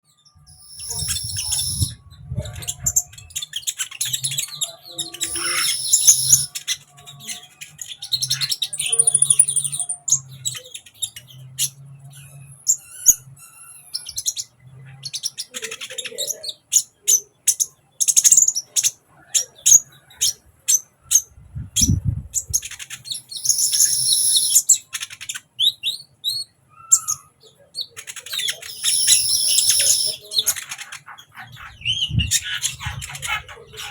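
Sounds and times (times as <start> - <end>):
bird chirps and trills: 0.1 - 33.9.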